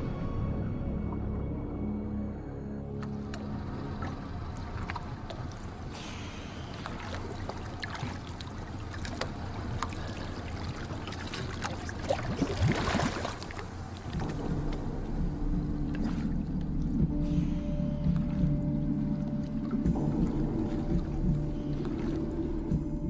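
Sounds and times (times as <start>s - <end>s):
low steady hum: 0.0s - 23.0s
water splashing and lapping: 0.0s - 23.0s.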